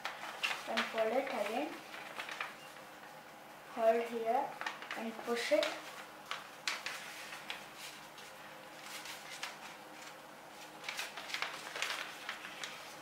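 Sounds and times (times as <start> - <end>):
paper rustling and crackling: 0.0 - 3.2, 3.8 - 13.0.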